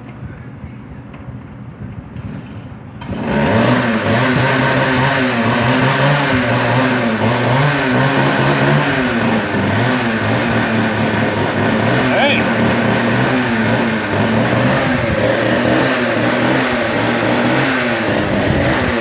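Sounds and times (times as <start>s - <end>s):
cut-off saw engine running unevenly: 3.0s - 19.0s.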